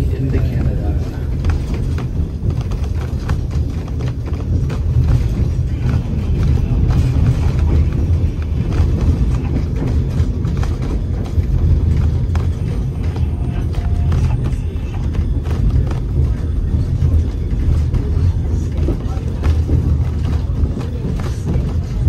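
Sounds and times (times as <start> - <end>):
train wheels rumbling on rail: 0.0 - 22.0
wheel clicks and knocks: 0.0 - 22.0.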